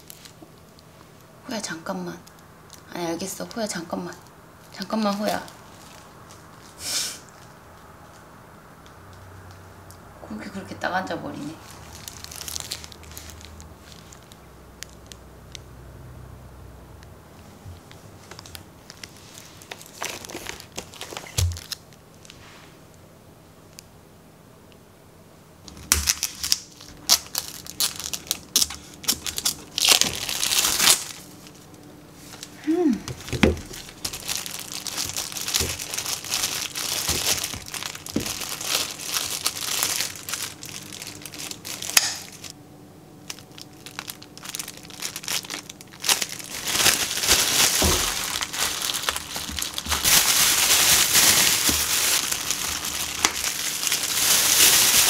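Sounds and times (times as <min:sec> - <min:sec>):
plastic gloves and bags crinkling: 0:00.0 - 0:08.2, 0:11.1 - 0:15.2, 0:17.7 - 0:22.5, 0:25.6 - 0:42.6, 0:43.2 - 0:55.0.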